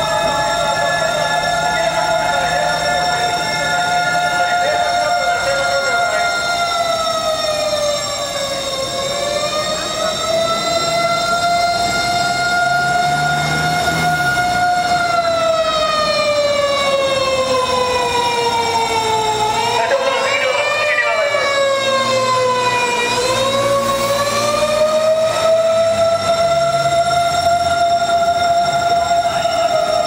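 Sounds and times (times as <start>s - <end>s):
fire engine siren wailing: 0.0s - 30.0s.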